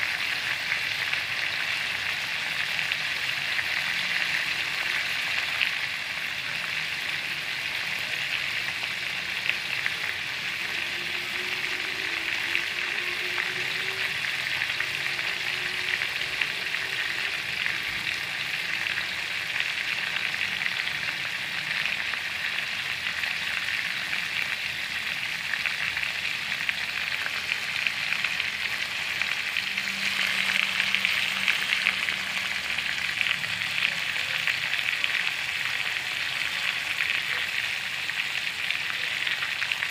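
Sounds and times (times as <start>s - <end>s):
liver sizzling in hot oil: 0.0s - 39.9s.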